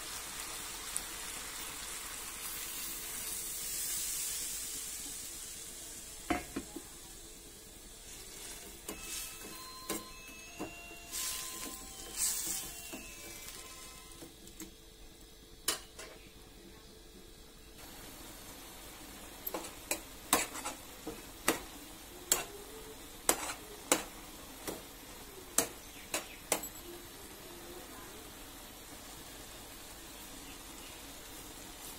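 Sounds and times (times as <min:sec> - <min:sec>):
noodles simmering with faint sizzle: 0:00.0 - 0:31.9.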